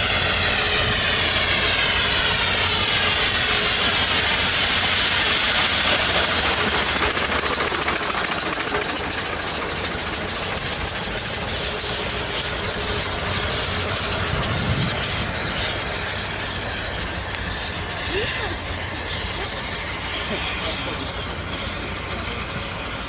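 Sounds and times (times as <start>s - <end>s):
steam lorry driving past: 0.0s - 23.0s.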